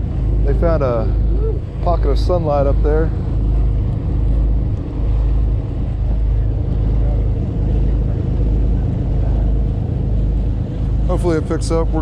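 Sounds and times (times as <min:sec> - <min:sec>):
boat engine drone: 0:00.0 - 0:12.0
hull rushing through water: 0:00.0 - 0:12.0.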